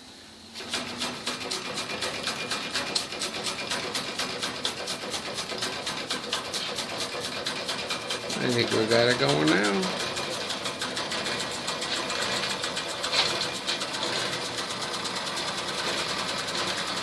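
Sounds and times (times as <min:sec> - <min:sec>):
toy steam engine chuffing: 0:00.6 - 0:17.0.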